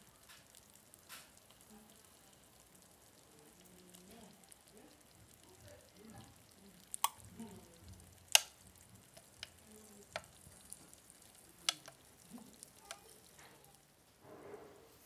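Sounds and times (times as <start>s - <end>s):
fat popping: 0.0s - 13.9s
egg sizzling: 0.0s - 14.2s.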